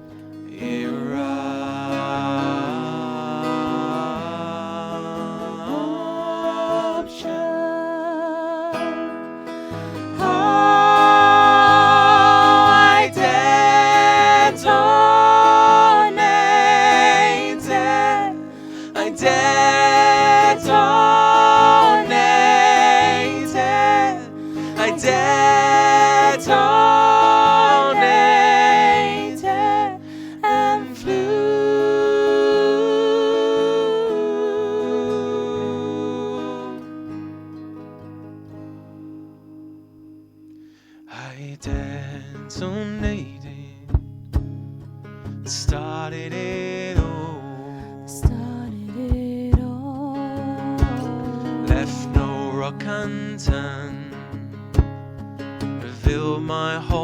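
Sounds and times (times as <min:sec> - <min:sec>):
acoustic guitar accompaniment: 0:00.0 - 0:57.0.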